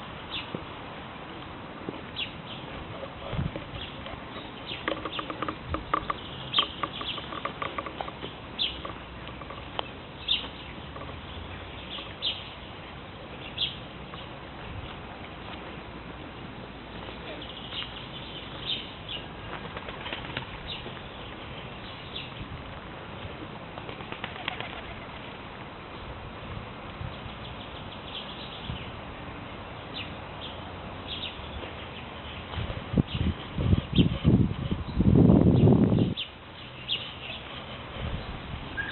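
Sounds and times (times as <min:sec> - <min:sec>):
birds chirping: 0:02.0 - 0:22.7, 0:27.1 - 0:38.9.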